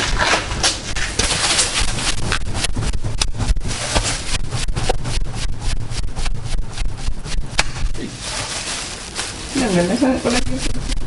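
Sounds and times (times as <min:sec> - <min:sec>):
board fanning air whooshes: 0:00.0 - 0:11.0.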